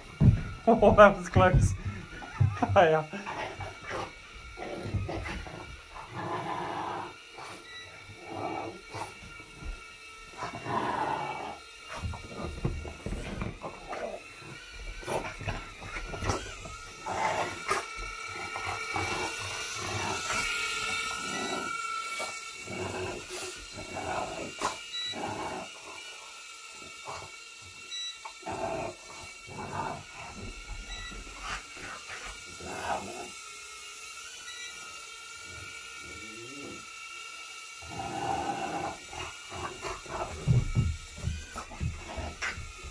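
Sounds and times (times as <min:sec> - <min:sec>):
toy drone propellers whining: 0:00.0 - 0:42.9.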